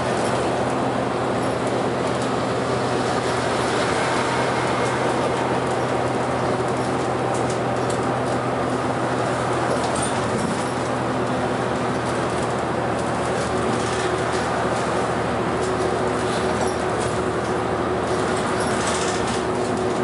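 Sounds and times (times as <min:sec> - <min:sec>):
bus engine drone: 0:00.0 - 0:20.0
tyre and road noise: 0:00.0 - 0:20.0.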